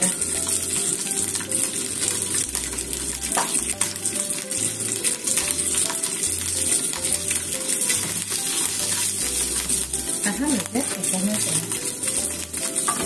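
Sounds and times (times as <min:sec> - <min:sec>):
background music: 0:00.0 - 0:13.0
ham sizzling in frying pan: 0:00.0 - 0:13.0.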